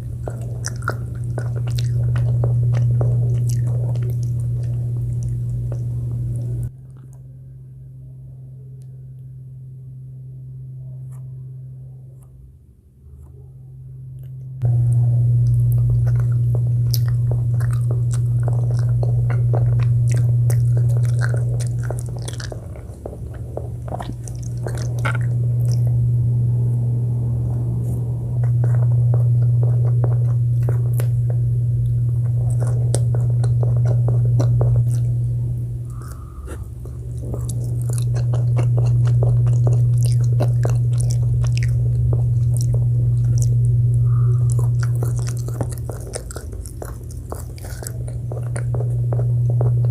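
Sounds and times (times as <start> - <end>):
chewing and biting food: 0.0 - 7.3, 14.2 - 49.9
low steady hum: 0.0 - 49.9.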